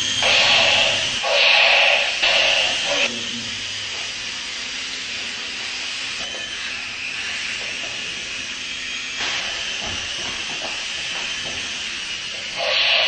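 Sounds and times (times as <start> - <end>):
toy helicopter rotor whirring: 0.0 - 13.0.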